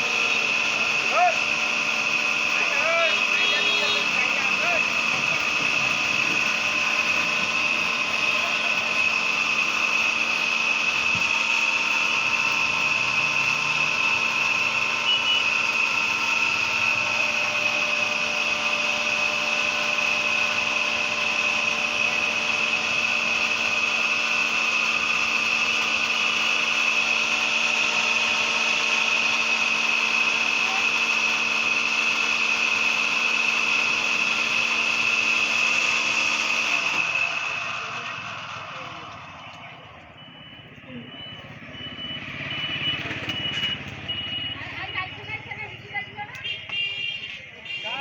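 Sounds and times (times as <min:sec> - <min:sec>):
small motor whining: 0:00.0 - 0:47.4.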